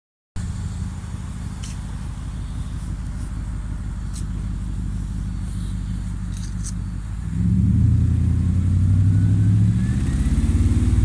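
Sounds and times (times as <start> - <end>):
car engine idling: 0.4 - 11.0.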